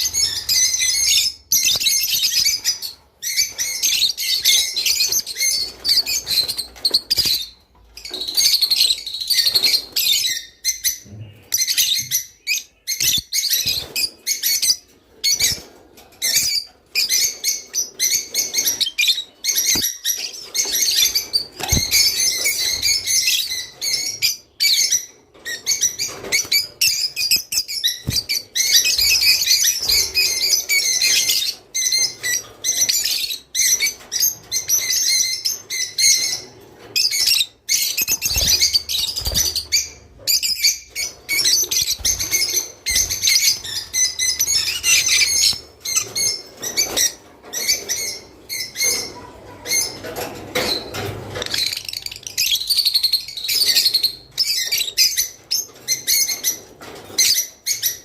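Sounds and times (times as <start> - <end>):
lovebirds chirping: 0.0 - 50.0.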